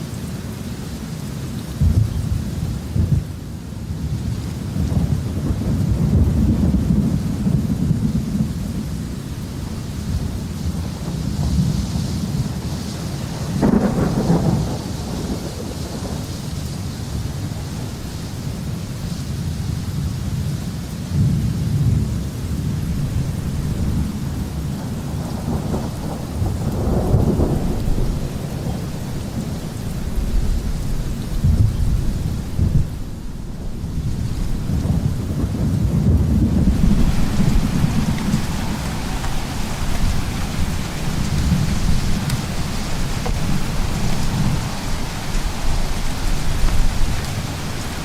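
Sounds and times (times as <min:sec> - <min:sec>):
steady rain: 0:00.0 - 0:48.0
rolling thunder: 0:01.8 - 0:03.4, 0:04.1 - 0:20.2, 0:21.1 - 0:48.0.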